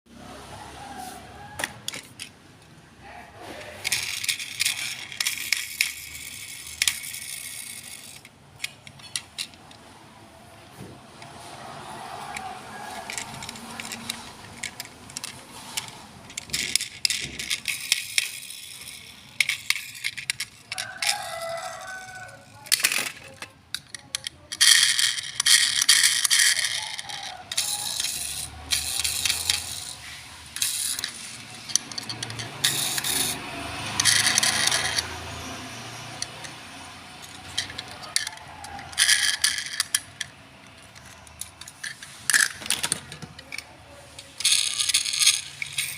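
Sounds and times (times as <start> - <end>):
plastic parts rattling: 1.4 - 2.4, 3.5 - 10.0, 10.6 - 45.9.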